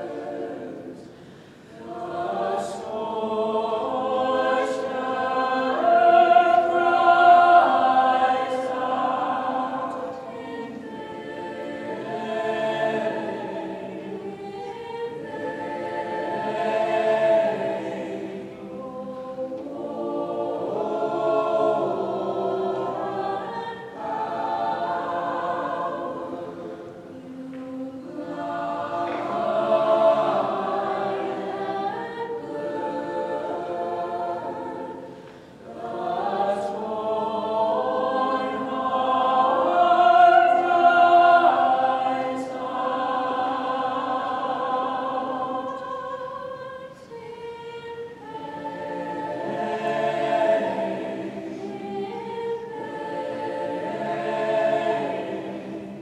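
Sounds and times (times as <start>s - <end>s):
choir singing in harmony: 0.0s - 56.0s.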